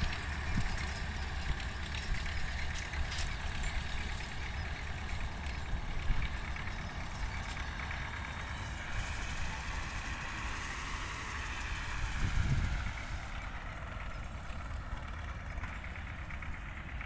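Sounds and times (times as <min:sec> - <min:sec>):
distant harvester engines droning: 0:00.0 - 0:17.0.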